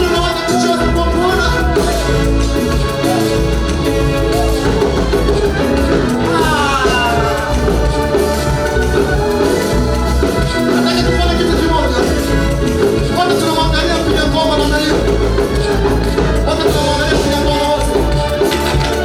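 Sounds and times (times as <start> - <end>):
person singing: 0.0 - 19.0
upbeat worship band music: 0.0 - 19.0.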